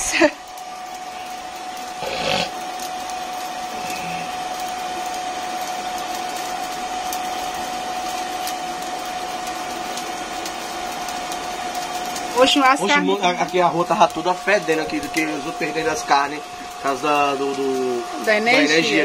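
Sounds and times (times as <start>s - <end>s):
hair dryer running: 1.0s - 19.0s.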